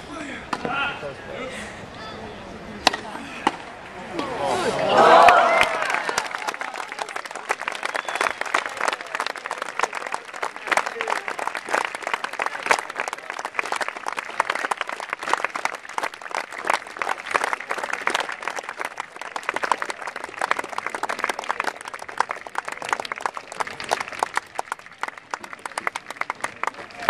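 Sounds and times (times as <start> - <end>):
crowd applauding: 4.6 - 27.0.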